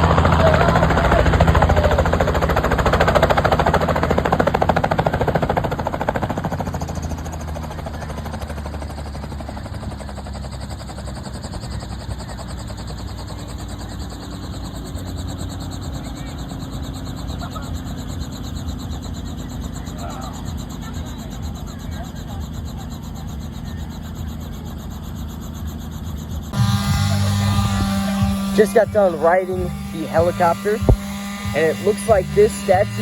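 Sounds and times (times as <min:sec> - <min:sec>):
helicopter engine hum: 0:00.0 - 0:33.0
helicopter rotor chopping: 0:00.0 - 0:33.0.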